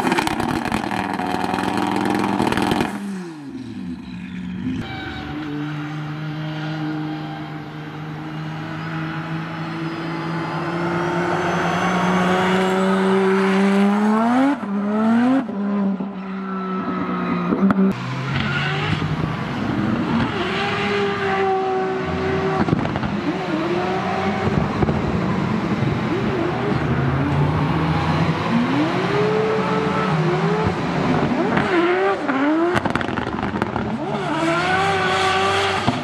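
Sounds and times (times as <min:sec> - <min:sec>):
car engine revving: 0:00.0 - 0:16.2, 0:16.8 - 0:36.0.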